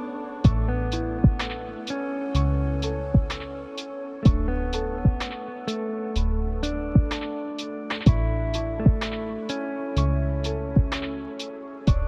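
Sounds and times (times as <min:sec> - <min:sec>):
lo-fi music with drum beat: 0:00.0 - 0:12.0.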